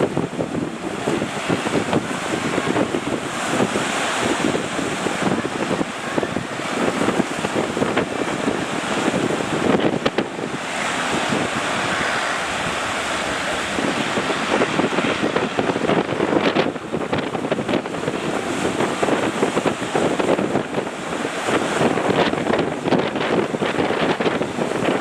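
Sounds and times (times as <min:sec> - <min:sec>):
breaking surf: 0:00.0 - 0:25.0
wind buffeting microphone: 0:00.0 - 0:25.0.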